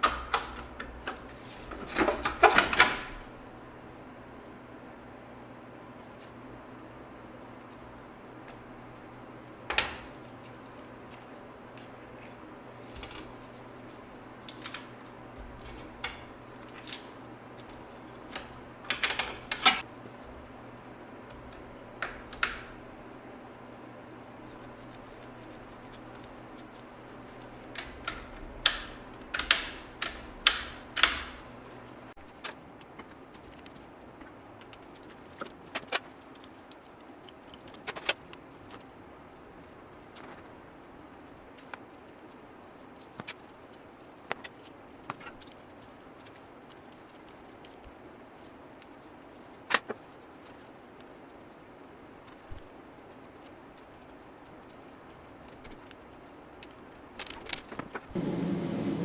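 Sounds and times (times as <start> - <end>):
steady low hum: 0.0 - 35.0, 45.7 - 59.0.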